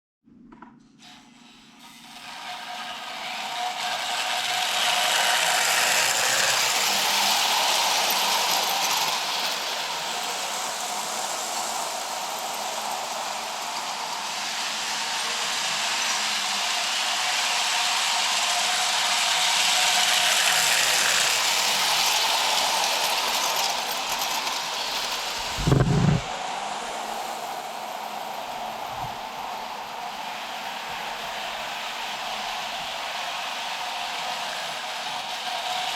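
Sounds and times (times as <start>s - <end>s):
toy electric train on metal track: 1.0s - 25.7s, 26.3s - 35.9s.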